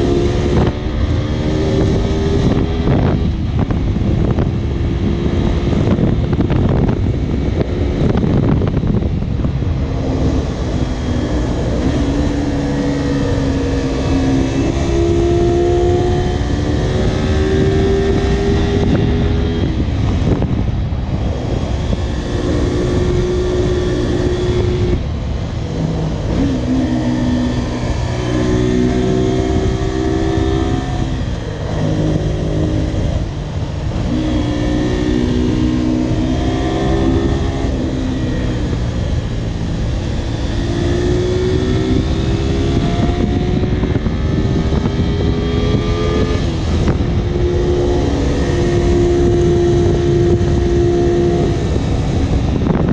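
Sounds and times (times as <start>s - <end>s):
motorcycle engine revving: 0.0s - 52.9s
wind and road noise: 0.0s - 52.9s.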